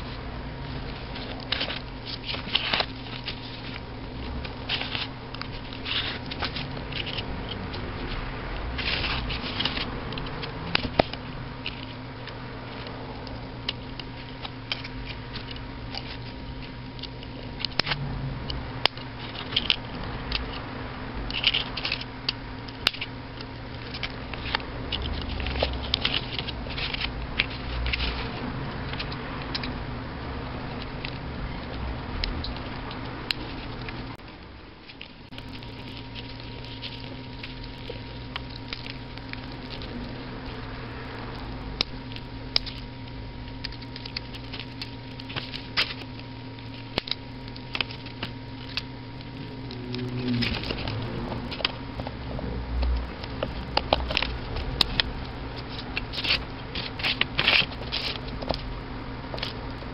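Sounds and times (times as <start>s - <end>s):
low hum: 0.0s - 59.9s.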